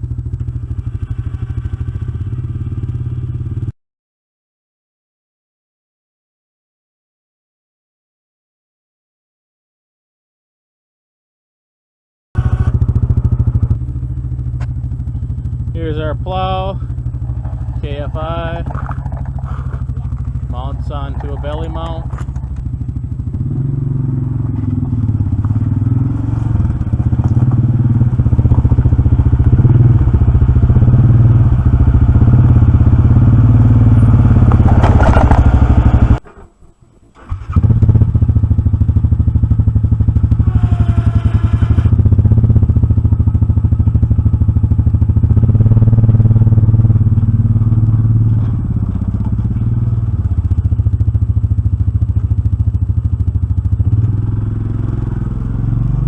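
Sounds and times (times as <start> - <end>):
atv engine revving: 0.0 - 3.7, 12.4 - 36.5, 37.1 - 56.0.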